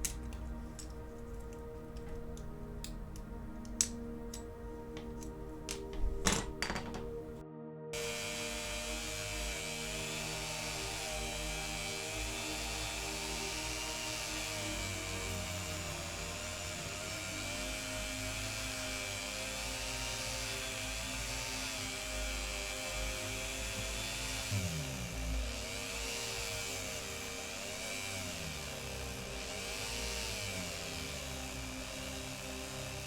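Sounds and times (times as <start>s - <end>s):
powered wire brush on metal: 0.0s - 7.3s, 8.0s - 33.0s
motor whine: 0.0s - 7.4s, 8.0s - 33.0s.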